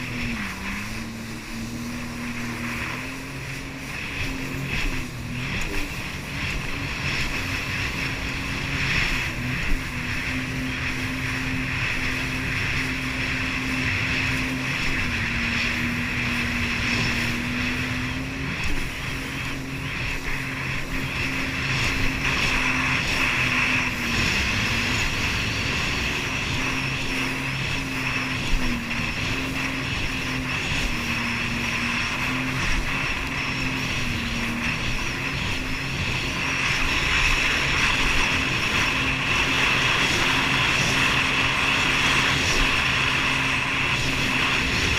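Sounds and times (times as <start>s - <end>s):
hiss of wind and spray: 0.0s - 44.9s
jet ski engine running: 0.0s - 44.9s.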